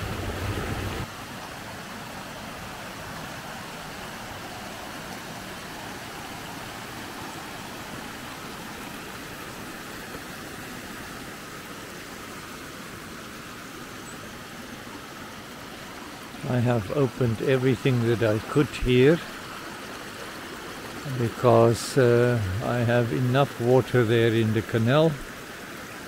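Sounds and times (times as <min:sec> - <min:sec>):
creek rushing over rocks: 0:00.0 - 0:26.0.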